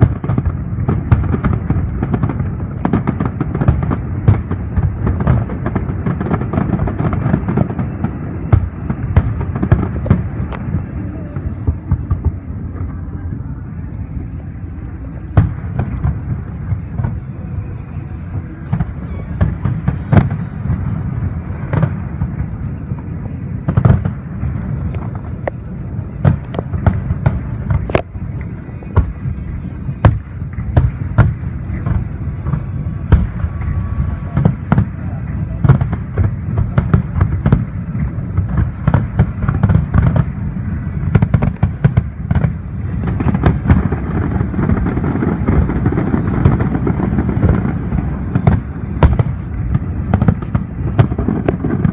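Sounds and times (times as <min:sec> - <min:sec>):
deep rumble: 0:00.0 - 0:51.9
fireworks bangs: 0:00.0 - 0:51.9.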